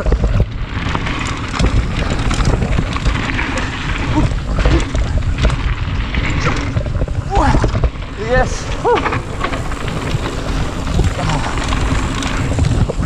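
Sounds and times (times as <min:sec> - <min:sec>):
bike rattling over ground: 0:00.0 - 0:13.0
wind rumbling on microphone: 0:00.0 - 0:13.0.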